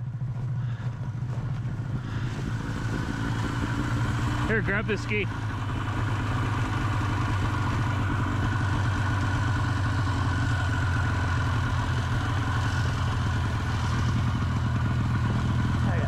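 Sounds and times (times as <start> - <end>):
snowmobile engine idling: 0.0 - 16.0.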